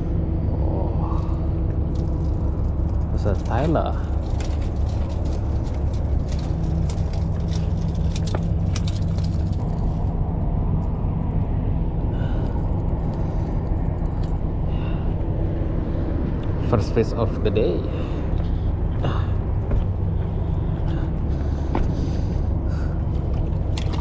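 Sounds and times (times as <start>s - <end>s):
low mechanical drone: 0.0s - 24.0s.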